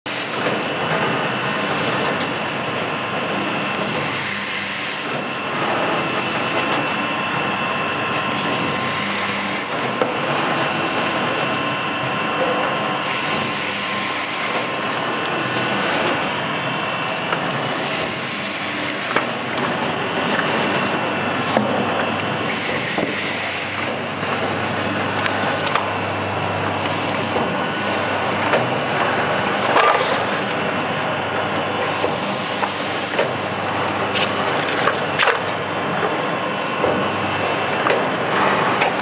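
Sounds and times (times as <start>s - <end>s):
machine whine: 0.1s - 39.0s.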